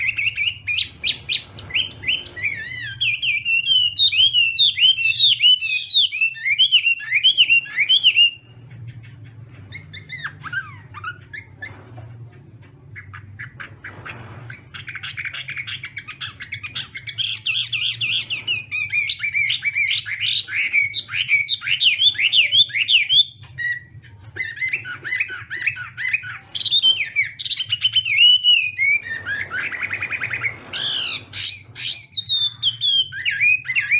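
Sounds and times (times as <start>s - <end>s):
bird singing rapid gliding notes: 0.0s - 33.9s.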